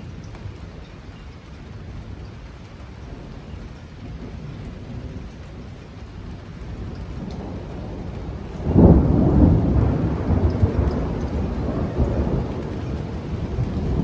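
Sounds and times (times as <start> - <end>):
steady rain: 0.0 - 14.0
thunder clap and rumble: 0.0 - 14.0.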